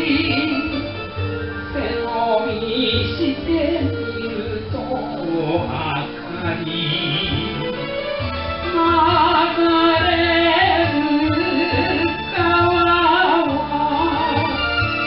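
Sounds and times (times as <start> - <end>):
instrumental backing track: 0.0 - 15.0
man singing with vibrato: 0.0 - 15.0.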